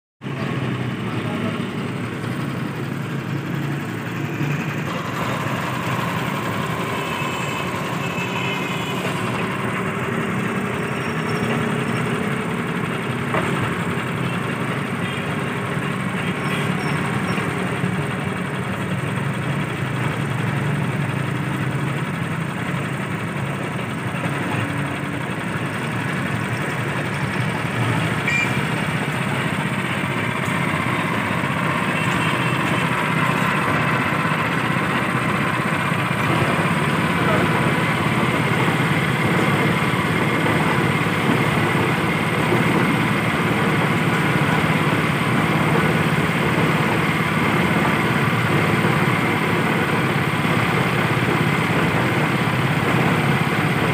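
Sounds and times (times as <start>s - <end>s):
small engine running: 0.2s - 53.9s.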